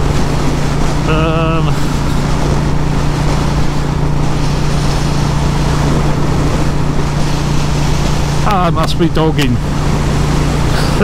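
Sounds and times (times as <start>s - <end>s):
heavy wind noise: 0.0s - 11.0s
motorcycle engine running: 0.0s - 11.0s.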